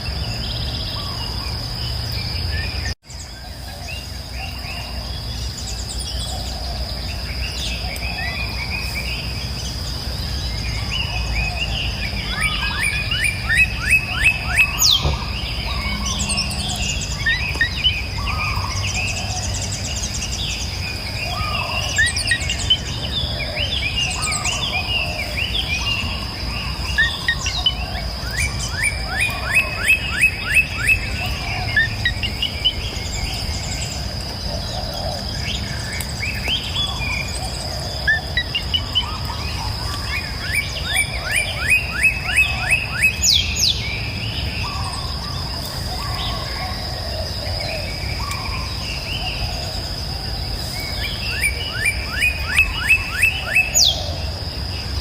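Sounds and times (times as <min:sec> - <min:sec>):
rapid bird trill: 0:00.0 - 0:49.9
songbirds chirping and singing: 0:00.0 - 0:55.0.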